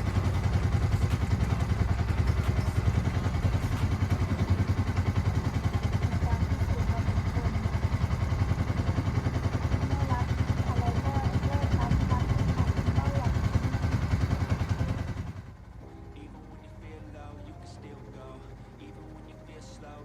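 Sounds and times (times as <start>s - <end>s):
boat engine throbbing: 0.0s - 20.0s.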